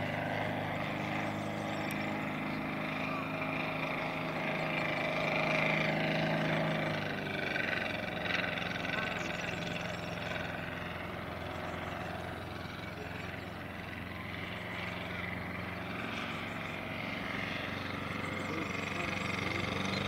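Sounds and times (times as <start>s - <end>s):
model plane engine in flight: 0.0s - 20.0s.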